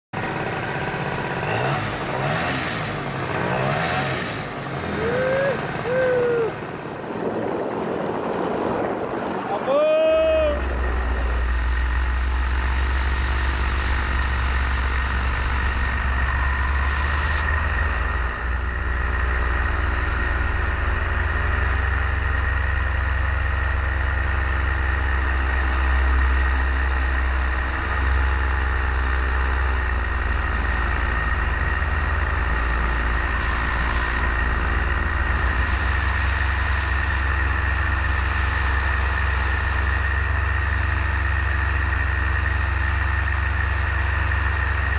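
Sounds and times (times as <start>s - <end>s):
paramotor engine drone: 0.1s - 44.9s
propeller high whine: 0.1s - 44.9s.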